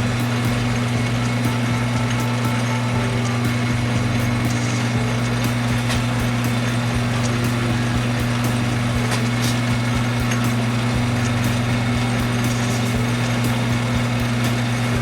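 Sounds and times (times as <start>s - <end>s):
metal lathe motor humming: 0.0s - 15.0s.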